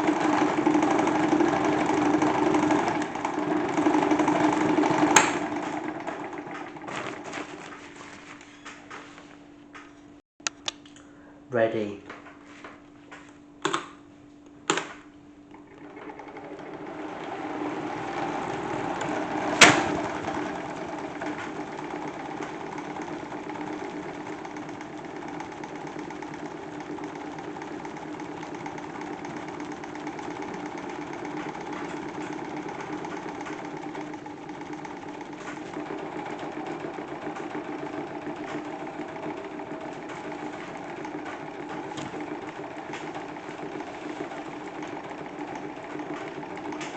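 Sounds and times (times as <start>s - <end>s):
salad spinner whirring: 0.0s - 8.5s, 15.5s - 46.9s.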